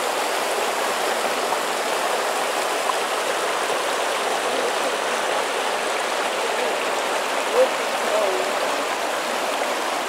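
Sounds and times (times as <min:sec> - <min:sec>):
creek splashing over rocks: 0:00.0 - 0:10.0.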